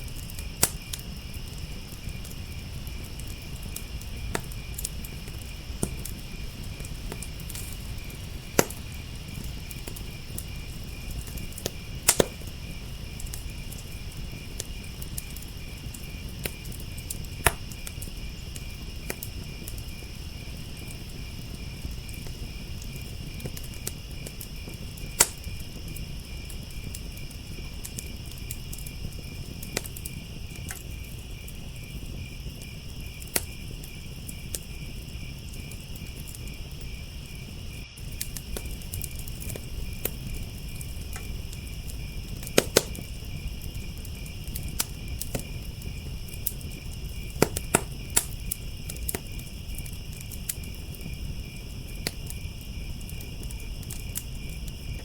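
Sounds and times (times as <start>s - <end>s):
crickets chirping: 0.0s - 55.0s
sharp pops from fire: 0.0s - 55.0s
wood fire crackling: 0.0s - 55.0s.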